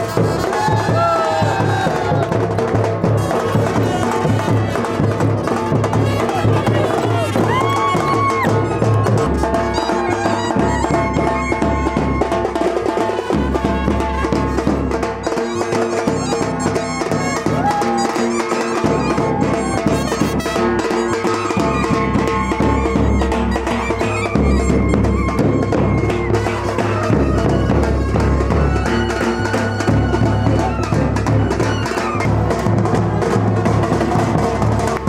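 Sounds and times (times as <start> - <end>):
instrumental music with drums: 0.0 - 35.0.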